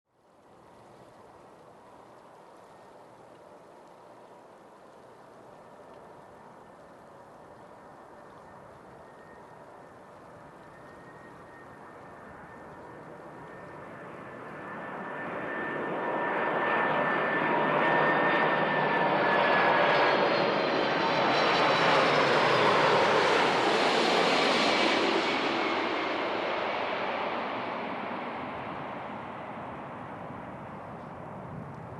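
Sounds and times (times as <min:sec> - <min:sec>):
jet engines roaring past: 0:00.9 - 0:31.9.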